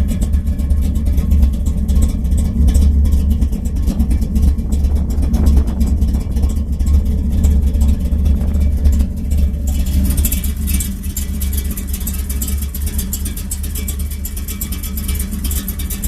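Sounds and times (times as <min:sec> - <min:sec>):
engine exhaust rumble: 0:00.0 - 0:16.0.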